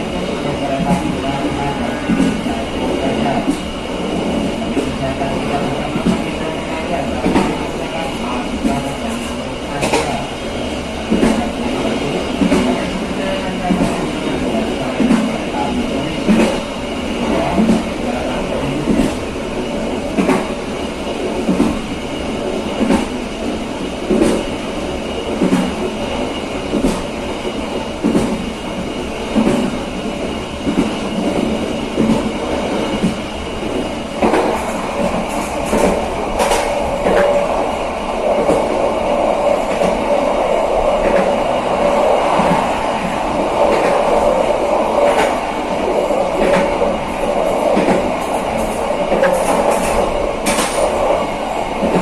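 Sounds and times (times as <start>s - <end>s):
train rumble: 0.0s - 52.0s
train wheels clickety-clack: 0.0s - 52.0s.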